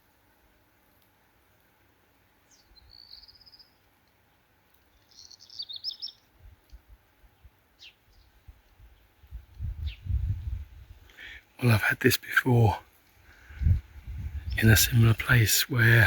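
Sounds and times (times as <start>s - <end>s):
songbird singing: 2.4s - 16.0s.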